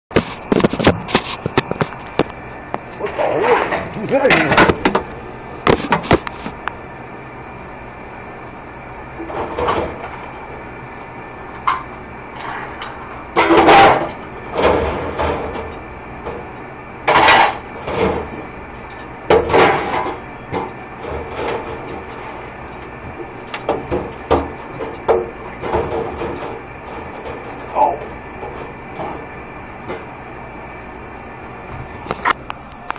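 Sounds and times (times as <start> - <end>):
steady hum: 0.1 - 32.9.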